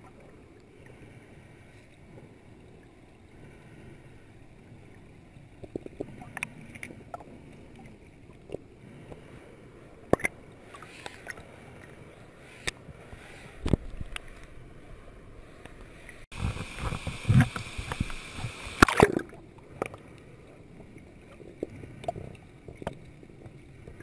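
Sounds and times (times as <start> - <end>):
muffled underwater stream rush: 0.0 - 24.0.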